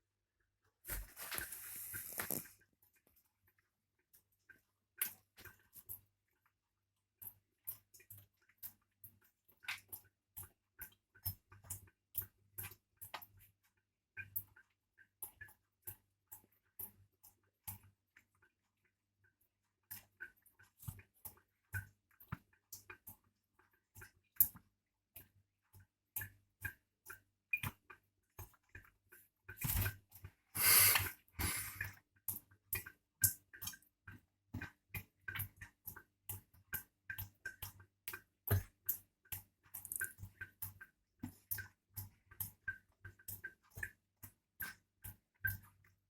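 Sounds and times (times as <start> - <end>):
water dripping from a tap: 1.2 - 46.0.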